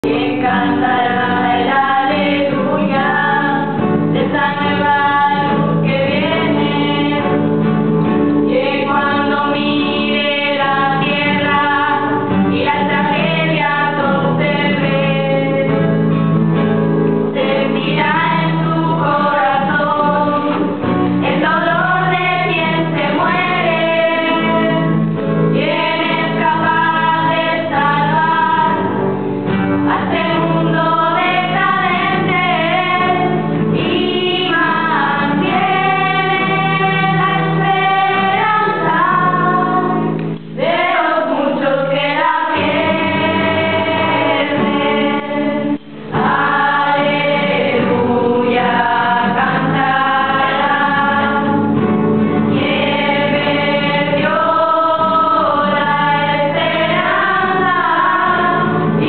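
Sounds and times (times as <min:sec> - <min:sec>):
women and girls singing: 0:00.0 - 0:16.2, 0:17.3 - 0:59.0.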